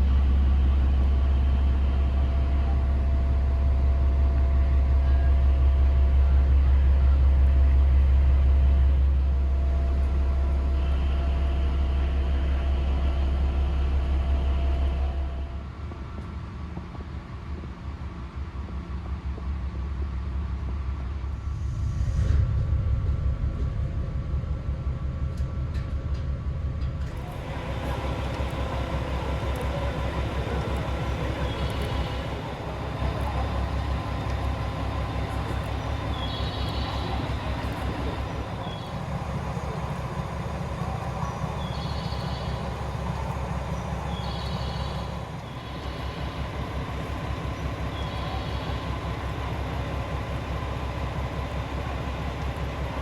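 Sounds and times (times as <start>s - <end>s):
diesel engine idling: 0.0s - 15.6s, 23.0s - 53.0s.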